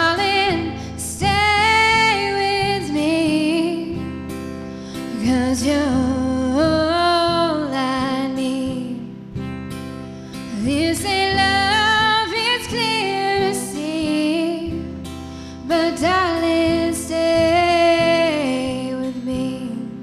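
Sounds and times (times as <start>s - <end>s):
slow acoustic guitar music: 0.0s - 20.0s.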